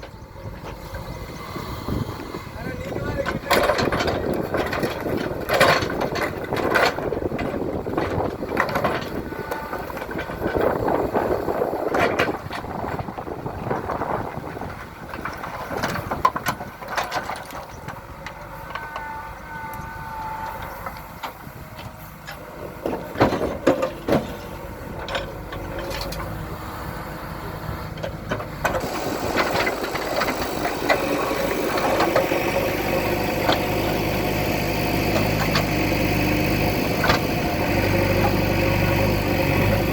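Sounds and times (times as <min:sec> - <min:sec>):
diesel engine working: 0:00.0 - 0:39.9.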